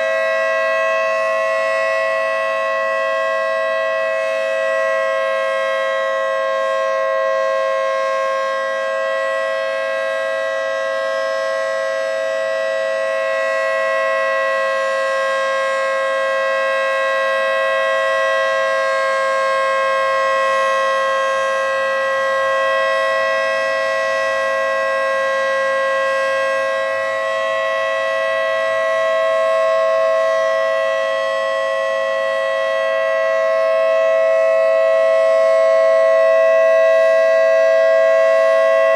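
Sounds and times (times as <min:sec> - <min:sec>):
two-tone warning siren: 0:00.0 - 0:38.9.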